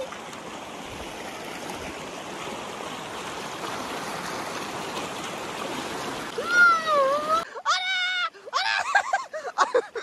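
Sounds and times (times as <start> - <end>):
stream flowing over rock: 0.0 - 10.0.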